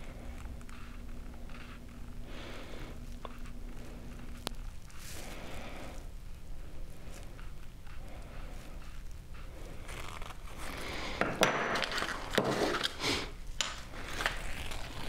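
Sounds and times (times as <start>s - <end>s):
gloved hands crinkling: 0.0s - 15.0s.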